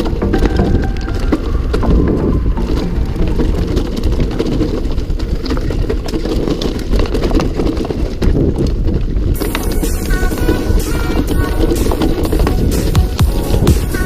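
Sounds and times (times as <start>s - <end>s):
bike rattles and knocks: 0.0s - 14.0s
wind rumble on microphone: 0.0s - 14.0s.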